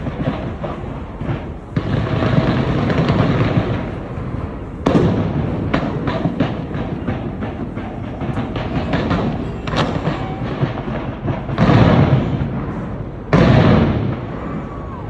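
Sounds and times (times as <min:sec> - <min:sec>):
fireworks cracking and popping: 0:00.0 - 0:15.0
heavy firework booms: 0:00.0 - 0:15.0.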